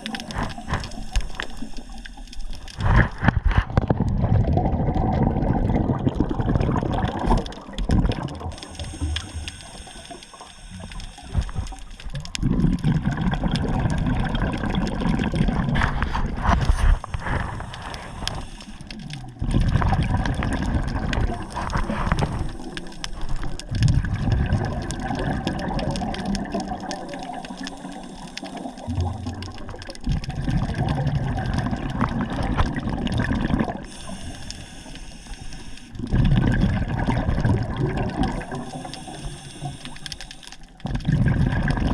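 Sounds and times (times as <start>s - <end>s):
water sloshing and gurgling: 0.0s - 41.9s.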